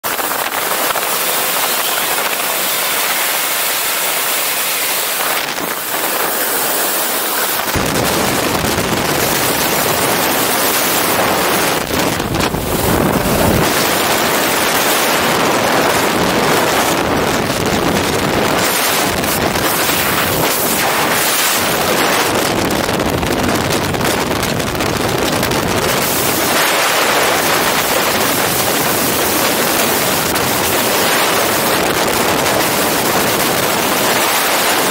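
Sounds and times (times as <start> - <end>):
rush of wind and aircraft noise: 0.0 - 34.9.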